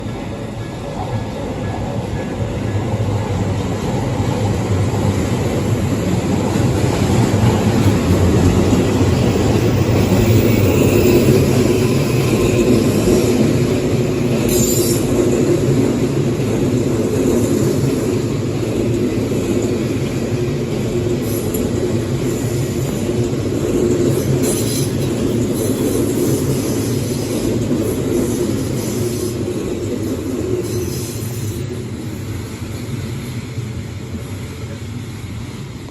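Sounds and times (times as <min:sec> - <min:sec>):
electric train passing: 0:00.0 - 0:35.9.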